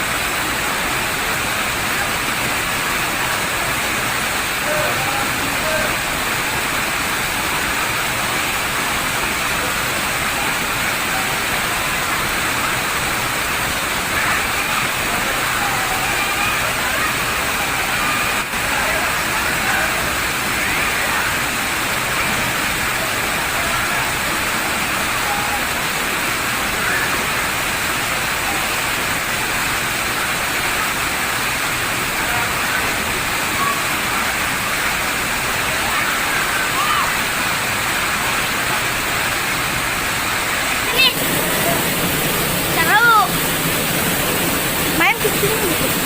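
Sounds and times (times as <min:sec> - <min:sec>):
river water rushing over rocks: 0:00.0 - 0:46.0.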